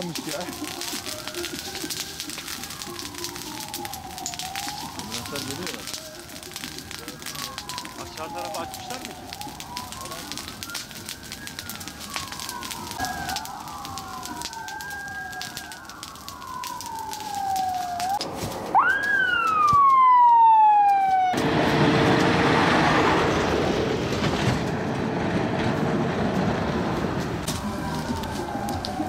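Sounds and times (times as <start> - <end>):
crackling: 0.0 - 29.0
emergency sirens wailing: 0.0 - 29.0.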